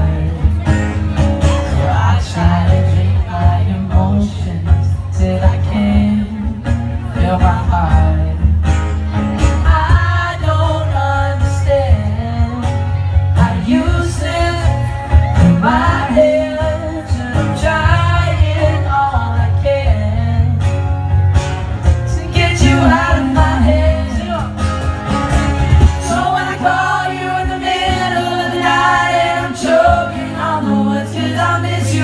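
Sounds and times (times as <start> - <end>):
man singing: 0.0 - 0.6, 1.7 - 8.6, 9.6 - 20.8, 22.0 - 24.8, 25.8 - 32.0
strummed acoustic guitars: 0.0 - 32.0.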